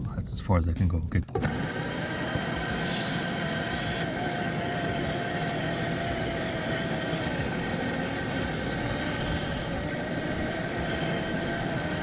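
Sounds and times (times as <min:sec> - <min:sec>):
engine drone falling in pitch: 0:01.4 - 0:12.0.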